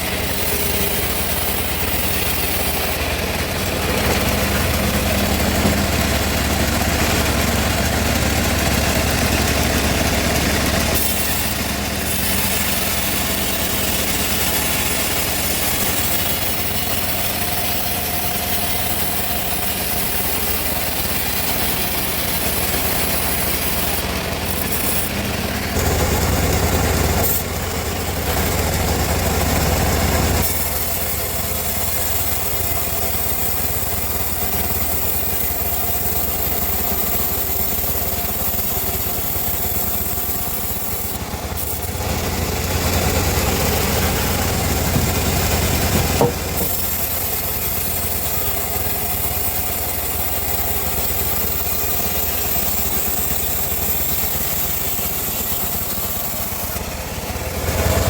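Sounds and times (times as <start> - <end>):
bandsaw mill humming: 0.0 - 58.0.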